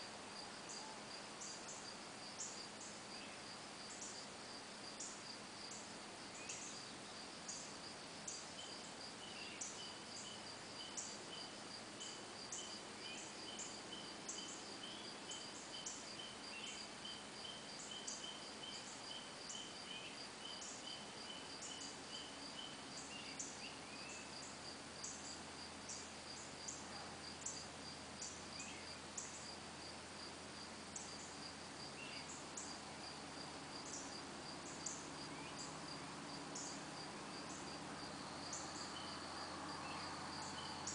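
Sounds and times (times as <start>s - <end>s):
higher insect chirps: 0.0s - 40.9s
insects trilling: 0.0s - 40.9s.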